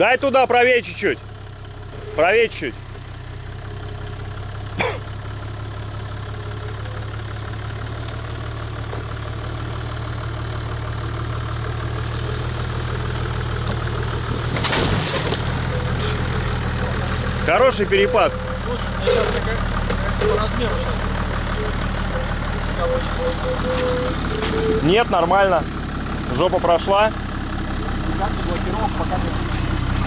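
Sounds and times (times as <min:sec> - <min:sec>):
engine running at low revs: 0:00.0 - 0:30.0.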